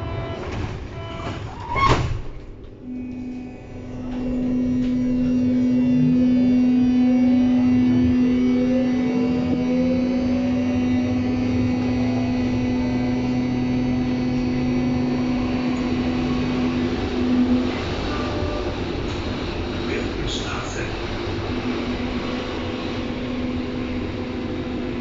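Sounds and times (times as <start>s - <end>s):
loud steady hum: 0.0s - 25.0s
train running gear rumble: 0.0s - 25.0s
train traction motor whine: 0.0s - 25.0s.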